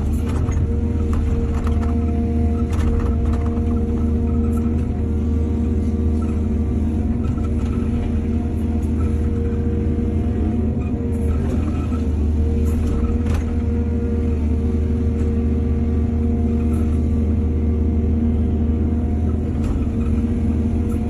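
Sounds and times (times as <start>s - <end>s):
excavator diesel engine droning: 0.0s - 21.0s.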